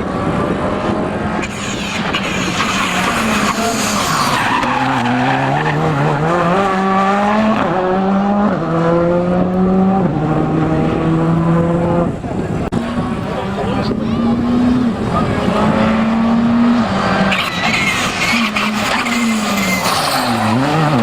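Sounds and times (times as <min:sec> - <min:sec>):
car engine accelerating: 0:00.0 - 0:21.0
tyres skidding: 0:00.0 - 0:21.0.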